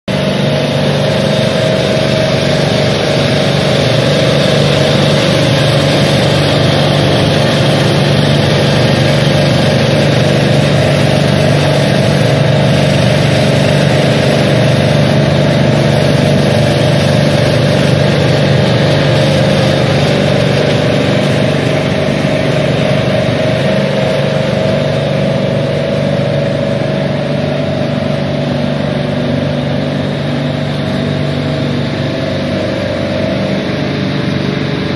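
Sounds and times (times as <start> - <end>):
compressor running: 0.1 - 34.9.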